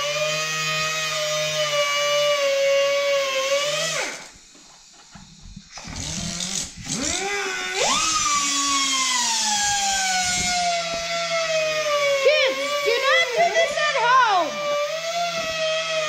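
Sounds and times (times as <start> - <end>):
cut-off grinder whining: 0.0 - 16.0.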